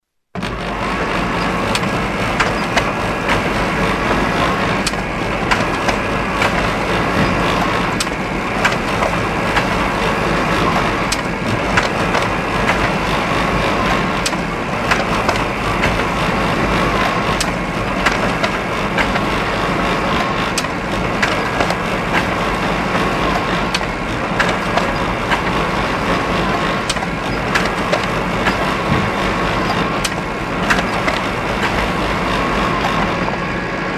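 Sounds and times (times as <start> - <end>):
machinery clanks and knocks: 0.4 - 33.5
factory machinery din: 0.4 - 33.9.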